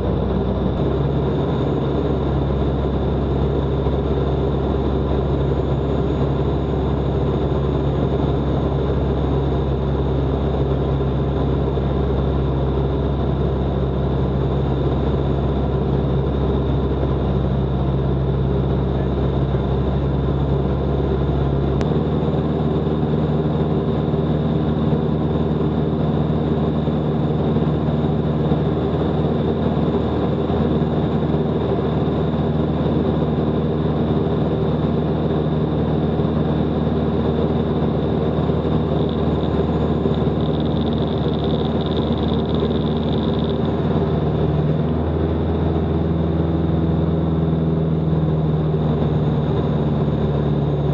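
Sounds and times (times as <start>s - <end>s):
light aircraft engine and propeller drone: 0.0s - 50.9s.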